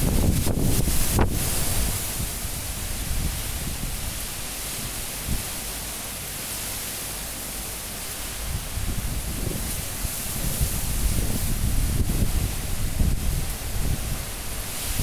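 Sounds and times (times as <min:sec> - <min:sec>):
strong wind blowing: 0:00.0 - 0:05.5, 0:08.3 - 0:15.0.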